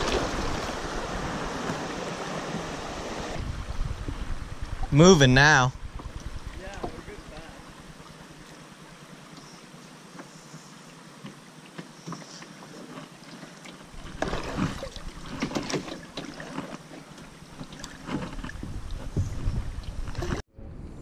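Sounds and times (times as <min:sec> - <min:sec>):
kayak paddle splashing: 0:00.0 - 0:05.0, 0:05.8 - 0:20.4
water along kayak hull: 0:00.0 - 0:21.0.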